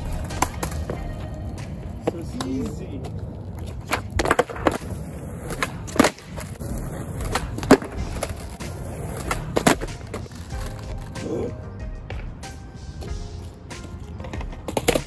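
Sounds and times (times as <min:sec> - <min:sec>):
skateboard deck clacking: 0:00.0 - 0:11.2, 0:13.4 - 0:15.0
skateboard wheels rolling on concrete: 0:00.0 - 0:15.0.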